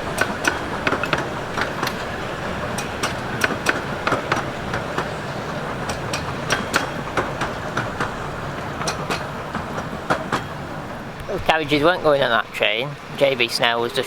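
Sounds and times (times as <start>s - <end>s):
diesel locomotive running: 0.0s - 14.0s
wheels clicking over rail joints: 0.0s - 14.0s.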